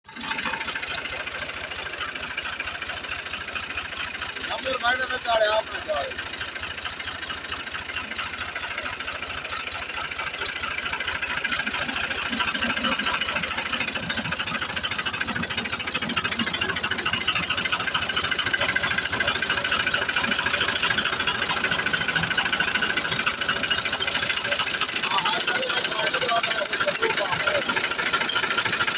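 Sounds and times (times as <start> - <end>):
diesel engine clattering: 0.0 - 28.9.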